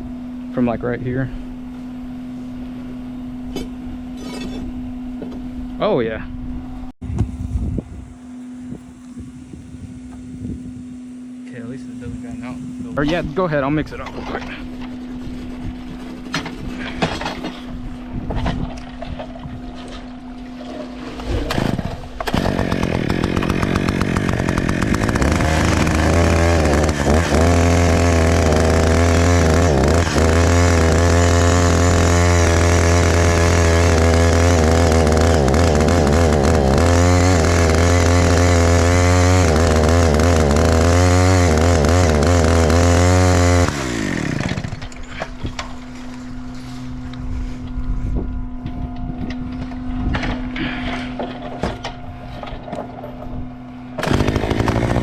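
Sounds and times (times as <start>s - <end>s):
small gas engine running: 7.1s - 52.6s, 53.6s - 55.0s.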